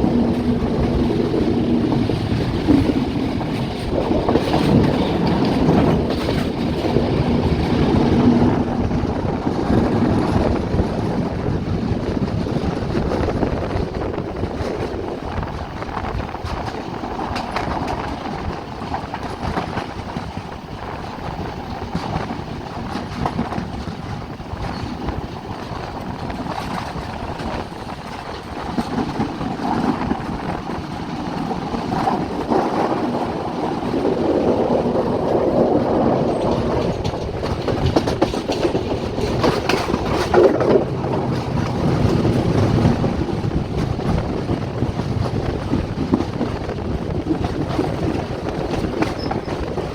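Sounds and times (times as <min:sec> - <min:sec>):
train wheels clickety-clack: 0:00.0 - 0:49.9.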